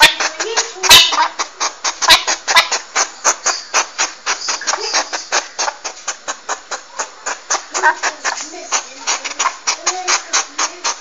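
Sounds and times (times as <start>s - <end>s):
porcupine clicking: 0.0s - 11.0s.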